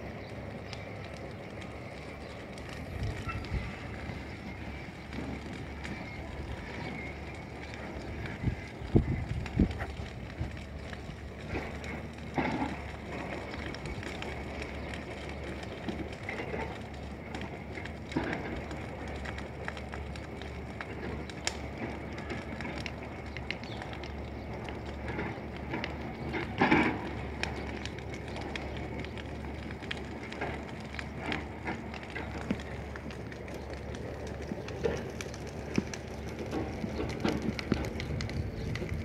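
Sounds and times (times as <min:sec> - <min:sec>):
bush fire crackling and popping: 0:00.0 - 0:39.0
outdoor rumble: 0:00.0 - 0:39.0.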